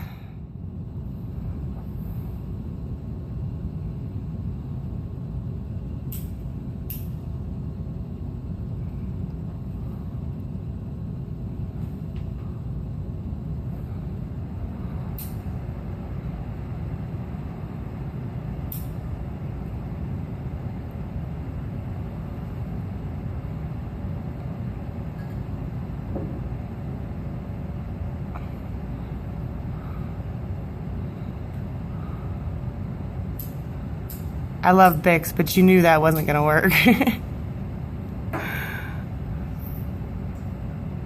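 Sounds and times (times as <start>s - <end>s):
electric fan blowing: 0.0s - 41.0s.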